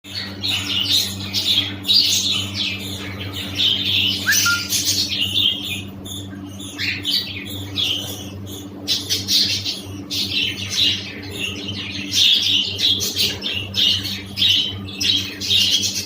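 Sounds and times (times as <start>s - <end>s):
budgerigars chattering and chirping: 0.1s - 16.0s
low electrical hum: 0.1s - 16.0s.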